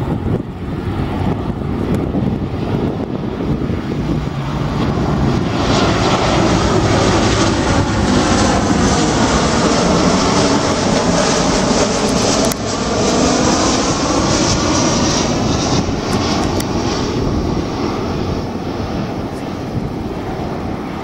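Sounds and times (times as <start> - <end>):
airliner engines passing close: 0.0 - 21.0.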